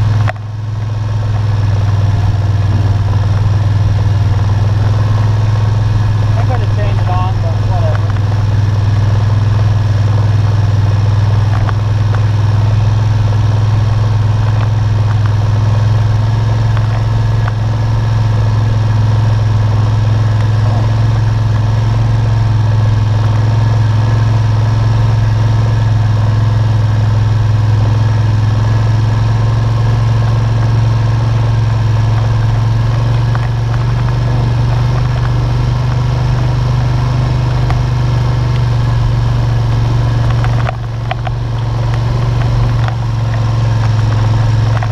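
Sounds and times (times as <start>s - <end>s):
atv engine running: 0.0s - 44.9s.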